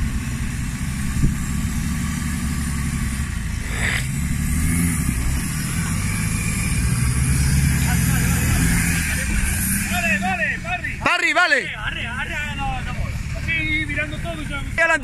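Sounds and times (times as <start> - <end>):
off-road vehicle engine: 0.0 - 15.0.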